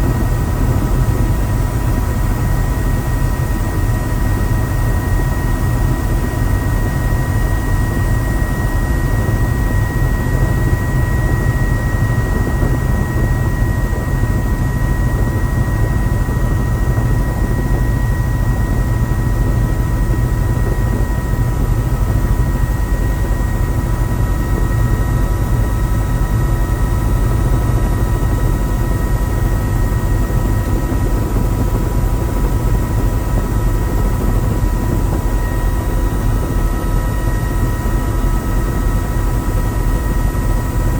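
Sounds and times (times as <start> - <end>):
helicopter low rumble: 0.0 - 40.9.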